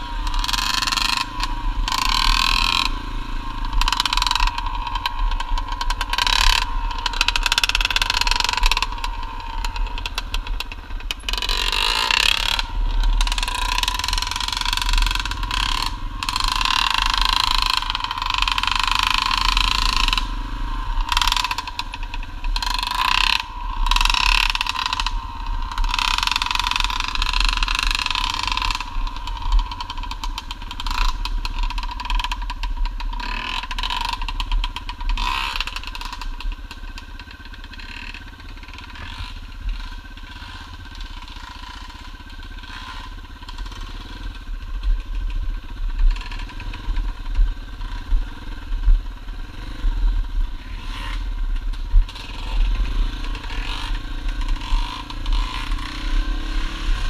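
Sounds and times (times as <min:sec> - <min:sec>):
dirt bike engine: 0:00.0 - 0:57.0
bike rattles and knocks: 0:00.2 - 0:20.4, 0:21.0 - 0:49.9, 0:50.6 - 0:57.0.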